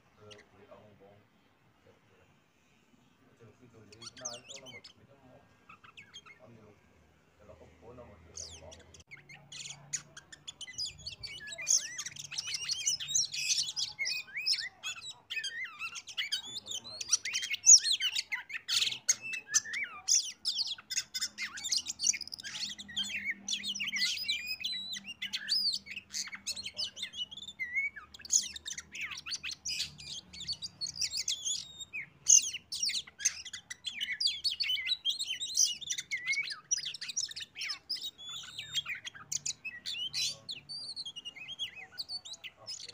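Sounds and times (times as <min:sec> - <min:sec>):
songbird chirps and trills: 0:00.0 - 0:42.9.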